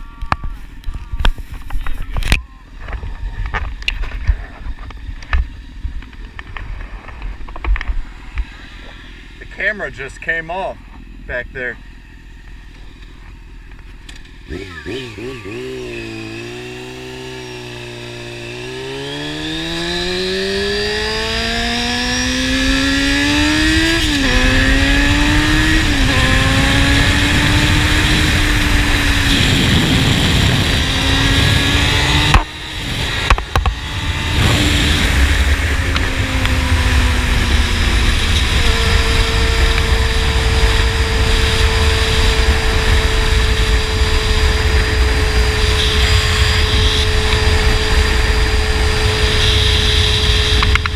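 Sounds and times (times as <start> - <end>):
wind noise on microphone: 0.0 - 9.0, 15.9 - 50.9
motorcycle engine accelerating: 0.0 - 50.9.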